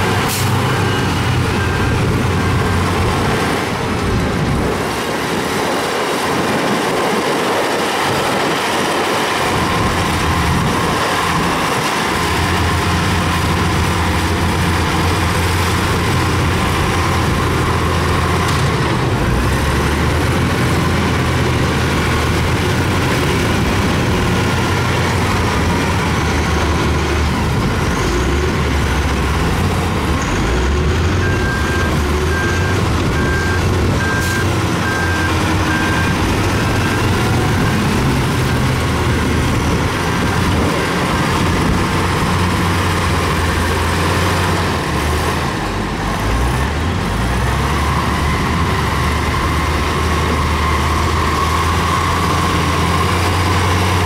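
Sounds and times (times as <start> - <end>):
heavy diesel machines running: 0.0 - 54.0.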